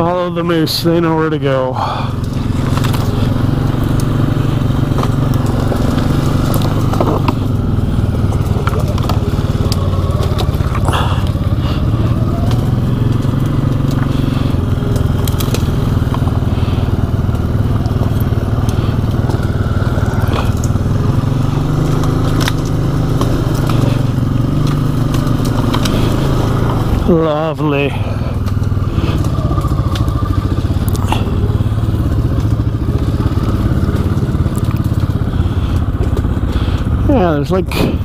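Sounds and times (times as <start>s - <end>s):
atv engine running: 0.0s - 38.0s
twigs and branches snapping: 2.1s - 36.9s.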